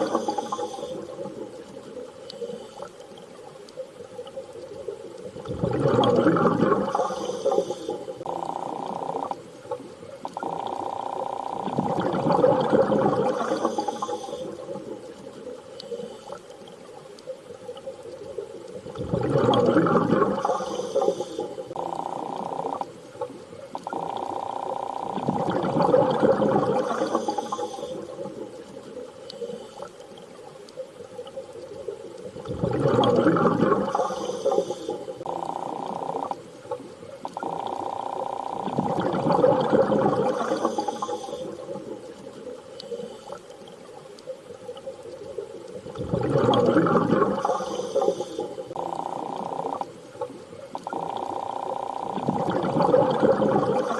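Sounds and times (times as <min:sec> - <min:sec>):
underwater rushing water: 0:00.0 - 0:53.9.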